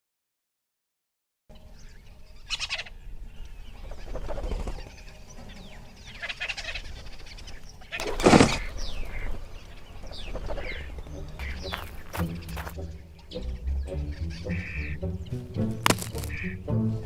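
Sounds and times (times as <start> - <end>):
birds calling: 1.5 - 17.0
light outdoor ambience: 1.5 - 17.0.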